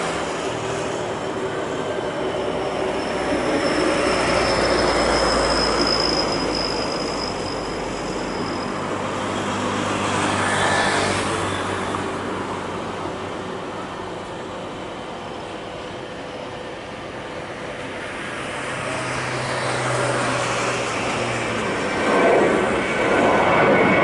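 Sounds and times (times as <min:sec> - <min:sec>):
jet engine roar on takeoff: 0:00.0 - 0:24.0.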